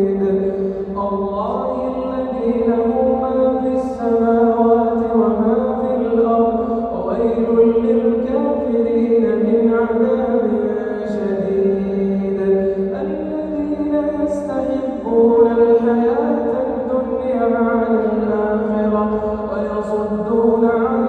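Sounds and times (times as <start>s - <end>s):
man reciting melodic chant: 0.0s - 21.0s.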